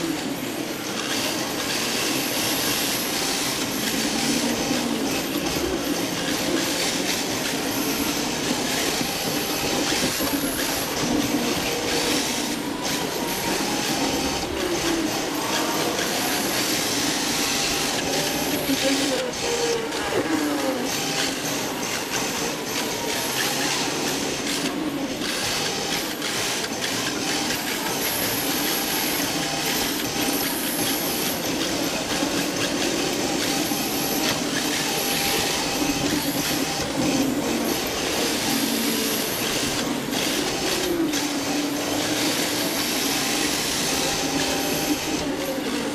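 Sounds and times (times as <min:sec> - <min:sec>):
electric motor and gears whining: 0:00.0 - 0:45.9.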